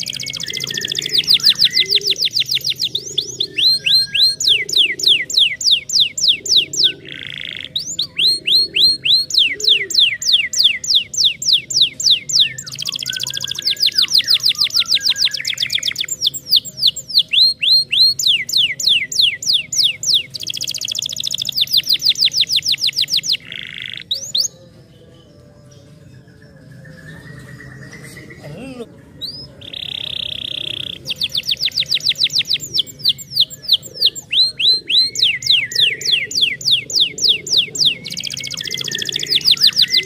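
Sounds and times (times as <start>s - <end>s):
canary singing: 0.0s - 40.0s.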